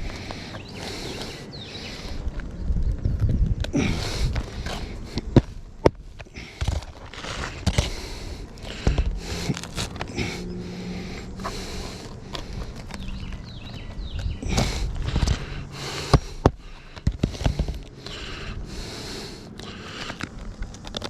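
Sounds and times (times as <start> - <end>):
roof shingles rustling and scraping: 0.0 - 21.0.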